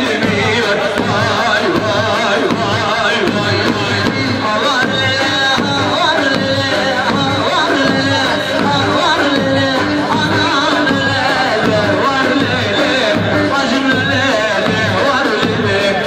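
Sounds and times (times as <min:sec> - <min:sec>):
folk dance music: 0:00.0 - 0:16.0
steady drum beat: 0:00.0 - 0:16.0.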